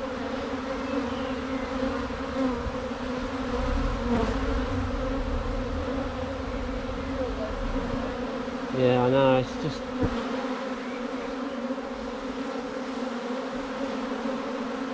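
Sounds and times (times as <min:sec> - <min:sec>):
bee swarm buzzing: 0:00.0 - 0:14.9.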